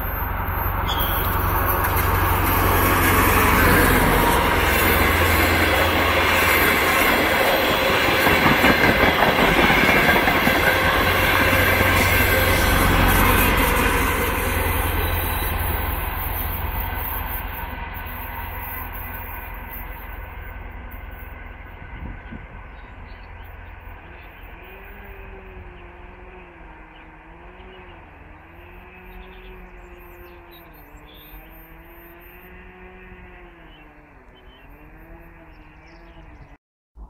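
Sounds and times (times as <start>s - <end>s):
diesel train engine drone: 0.0s - 36.6s.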